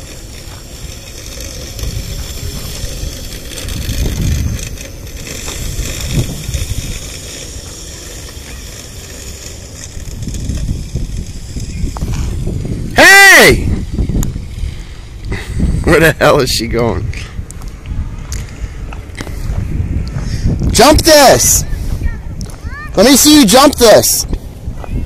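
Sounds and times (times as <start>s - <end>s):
electric dirt bike passing: 0.0s - 25.0s
wind on microphone: 0.0s - 25.0s.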